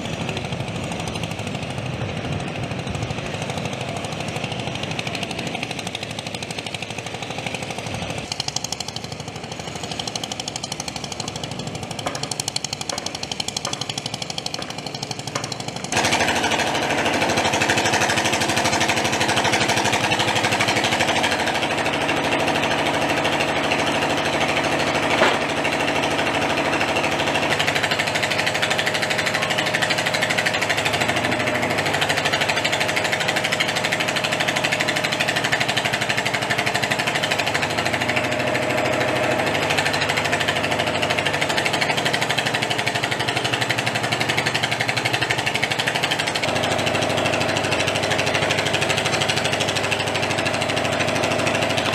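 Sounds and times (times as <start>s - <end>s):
engine hum: 0.0s - 51.9s
rapid mechanical hammering: 0.0s - 51.9s.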